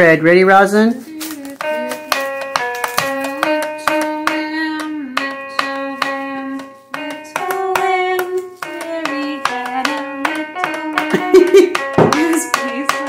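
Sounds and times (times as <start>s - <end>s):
plucked-sounding music: 0.9s - 13.0s.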